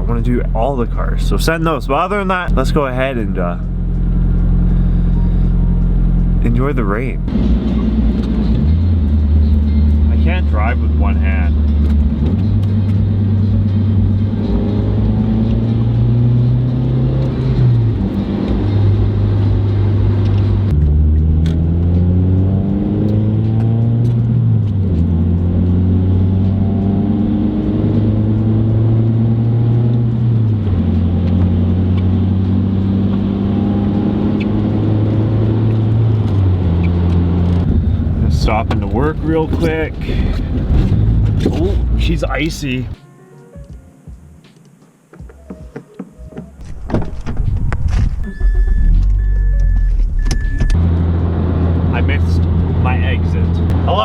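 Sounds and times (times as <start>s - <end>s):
car engine shifting through gears: 0.0s - 43.0s, 45.2s - 54.0s
road noise: 0.0s - 54.0s.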